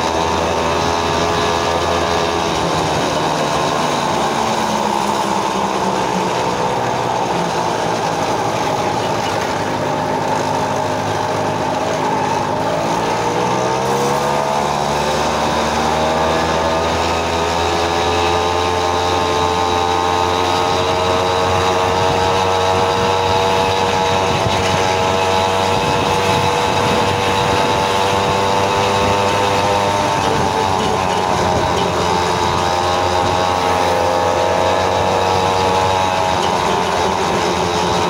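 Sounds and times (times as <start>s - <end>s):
small engine running: 0.0s - 38.0s
wind and road noise: 0.0s - 38.0s.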